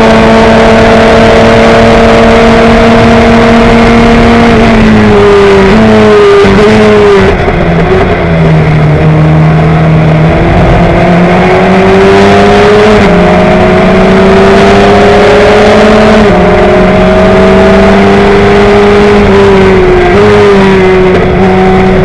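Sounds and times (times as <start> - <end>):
racing car engine at full throttle: 0.0 - 22.0.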